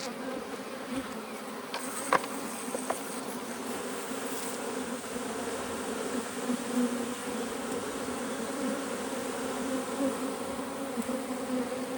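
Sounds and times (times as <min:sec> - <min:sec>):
bees buzzing: 0:00.0 - 0:11.9.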